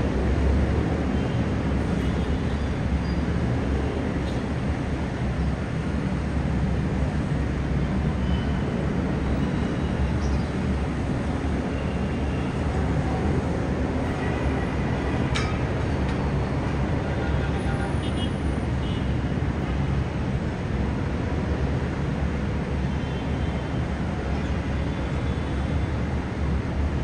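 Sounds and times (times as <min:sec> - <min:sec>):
heavy city traffic rumble: 0:00.0 - 0:27.0.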